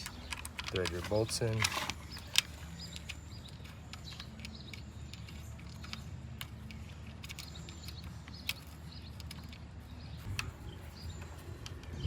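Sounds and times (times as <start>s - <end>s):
small metal parts clicking: 0.0s - 12.0s.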